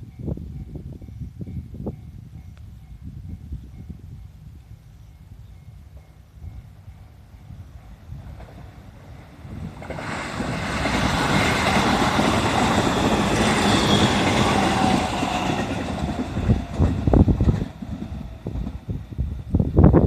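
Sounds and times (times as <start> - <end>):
electric train passing: 0.0 - 20.0
wind buffeting microphone: 0.0 - 20.0.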